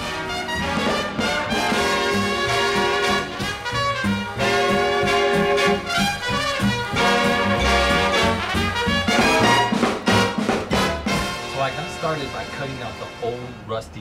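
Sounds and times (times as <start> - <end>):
stepping bass line: 0.0 - 11.9
brass background music: 0.0 - 14.0.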